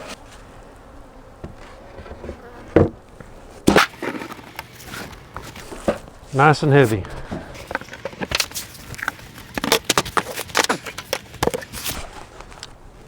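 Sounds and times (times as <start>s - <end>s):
hive boxes knocking and scraping: 1.3s - 12.6s.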